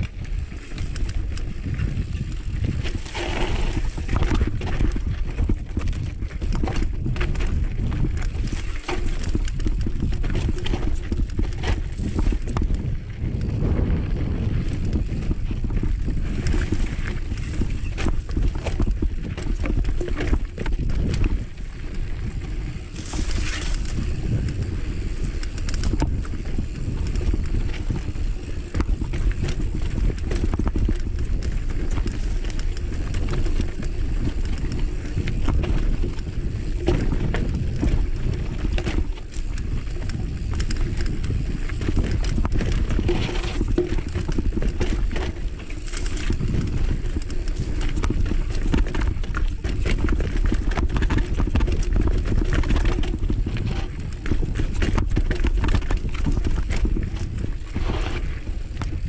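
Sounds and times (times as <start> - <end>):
bike clicks and rattles: 0.0 - 59.0
bike tyres rumbling on dirt: 0.0 - 59.0.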